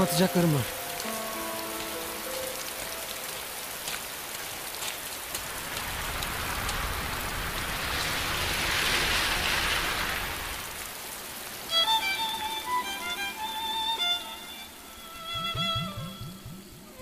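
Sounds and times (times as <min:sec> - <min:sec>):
rain pouring: 0:00.0 - 0:17.0
raindrops striking nearby: 0:00.0 - 0:17.0.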